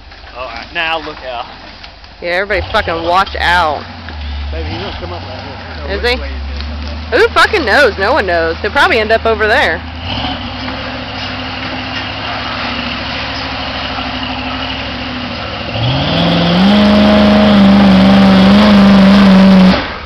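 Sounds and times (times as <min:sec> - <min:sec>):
truck engine revving: 0:02.3 - 0:20.0.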